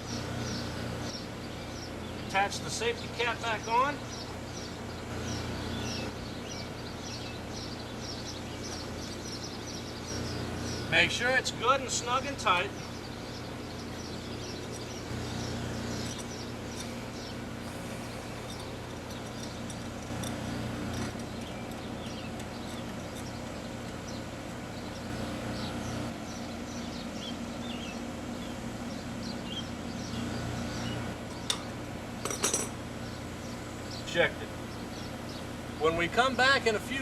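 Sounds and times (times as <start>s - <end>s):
air conditioner unit humming: 0.0s - 37.0s
birds chirping: 0.0s - 37.0s.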